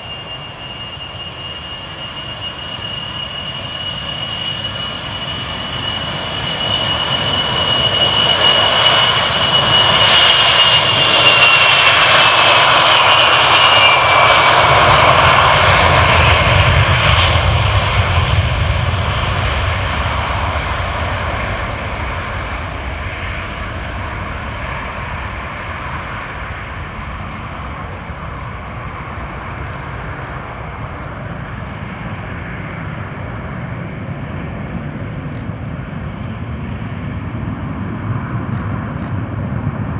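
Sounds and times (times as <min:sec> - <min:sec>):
aircraft engines passing by: 0:00.0 - 0:39.9.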